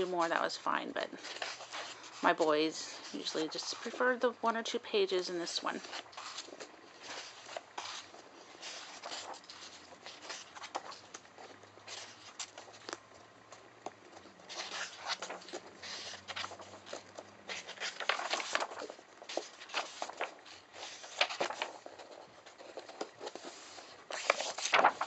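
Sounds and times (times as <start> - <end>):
paper pages turning: 0.0 - 4.3, 5.4 - 25.0.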